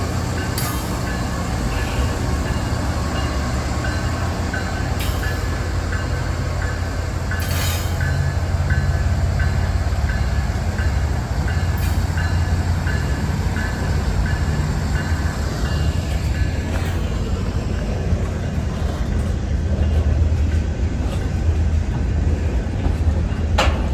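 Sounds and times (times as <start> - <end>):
freight train rumbling past: 0.0 - 23.9
sharp train clanks: 0.0 - 23.9.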